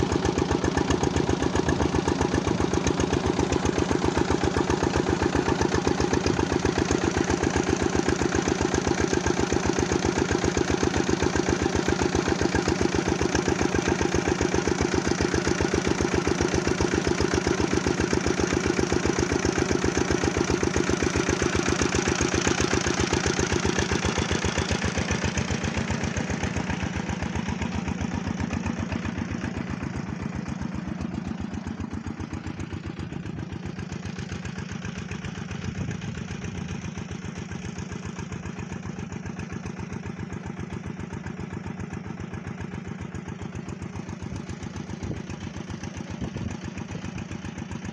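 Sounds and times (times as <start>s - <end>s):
diesel engine chugging: 0.0s - 47.9s.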